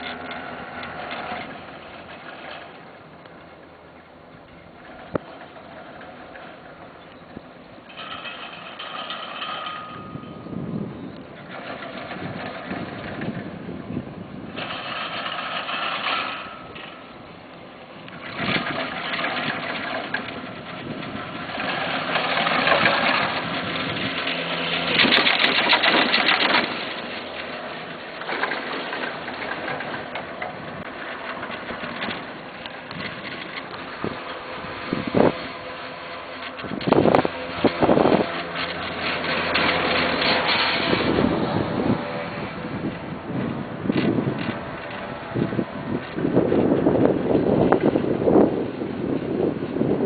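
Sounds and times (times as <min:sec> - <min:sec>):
chairlift mechanical clatter: 0:00.0 - 0:50.0.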